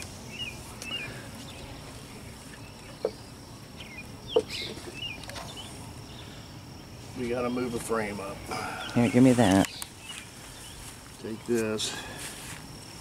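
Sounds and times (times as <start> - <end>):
bird chirps: 0.0 - 11.5.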